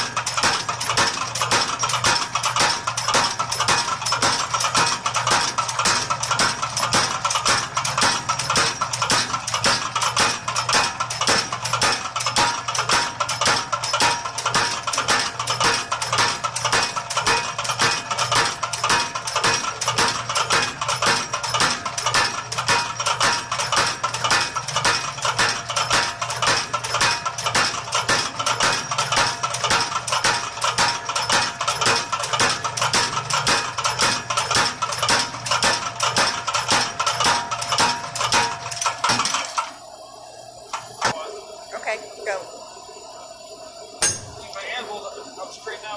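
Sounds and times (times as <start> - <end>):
power hammer striking hot steel: 0.0 - 39.7, 44.0 - 44.7.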